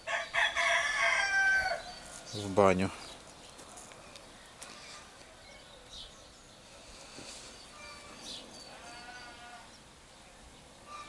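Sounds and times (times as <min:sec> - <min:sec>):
birds chirping and whistling: 0:01.4 - 0:11.0.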